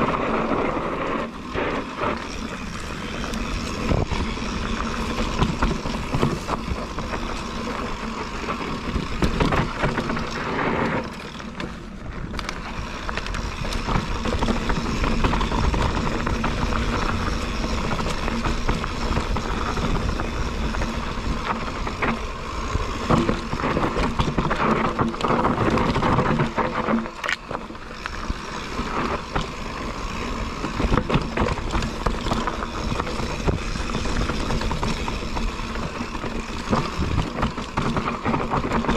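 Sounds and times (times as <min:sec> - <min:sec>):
bike clattering over bumps: 0:00.0 - 0:38.9
bike tyres rolling over dirt: 0:00.0 - 0:38.9
wind rumbling on microphone: 0:00.0 - 0:38.9.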